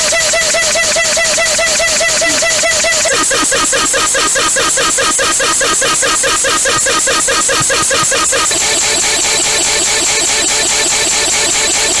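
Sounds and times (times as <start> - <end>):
warbling alarm tone: 0.2 - 11.6.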